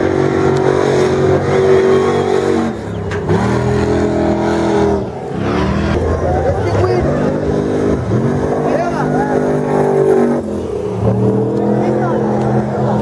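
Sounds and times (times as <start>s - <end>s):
truck engine revving through gears: 0.0s - 13.0s.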